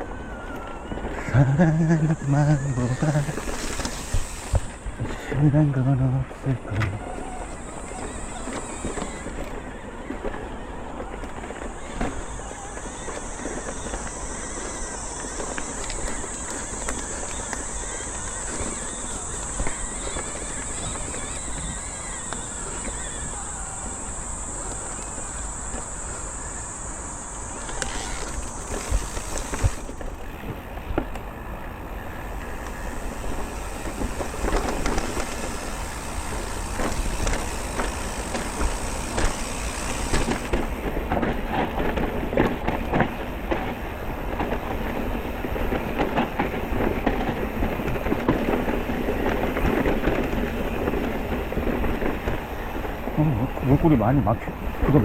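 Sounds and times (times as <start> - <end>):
bike rattling and clattering: 1.1 - 5.6, 6.4 - 55.0.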